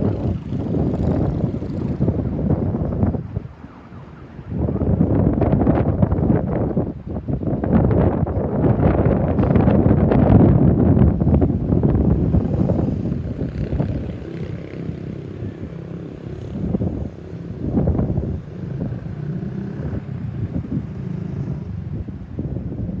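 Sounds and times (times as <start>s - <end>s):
road traffic rumble: 0.0s - 23.0s
wind buffeting microphone: 0.0s - 23.0s.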